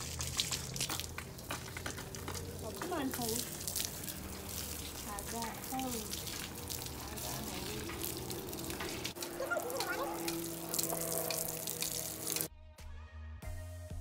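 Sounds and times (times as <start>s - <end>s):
garden hose spraying water: 0.0s - 12.5s.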